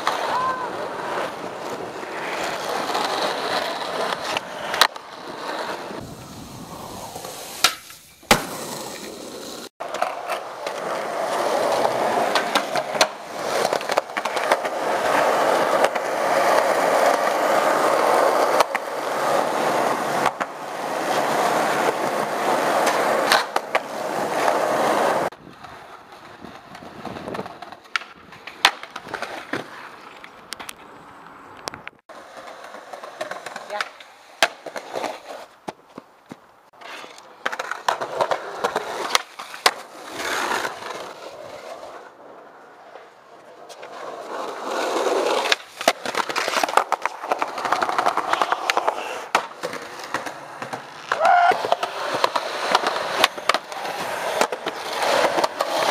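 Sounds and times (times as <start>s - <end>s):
skateboard popping and landing: 0.0s - 55.9s
skateboard wheels rolling on pavement: 0.0s - 55.9s.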